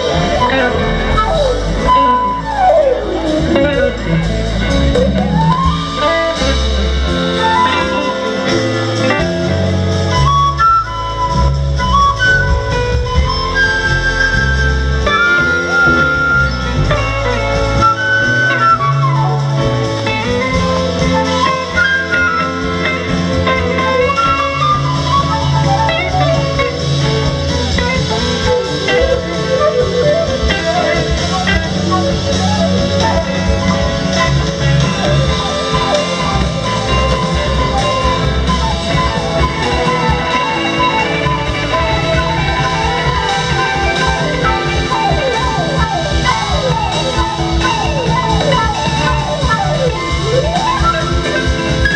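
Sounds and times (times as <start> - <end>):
bass guitar: 0.0 - 51.9
drums: 0.0 - 51.9
electric guitar lead: 0.0 - 51.9
live blues-rock band playing: 0.0 - 51.9.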